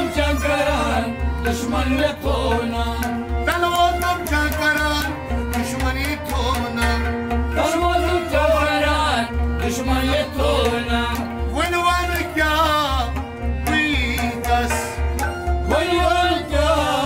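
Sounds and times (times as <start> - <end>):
man singing: 0.0 - 15.1, 15.7 - 17.0
harmonium drone: 0.0 - 17.0
rabab: 0.0 - 17.0.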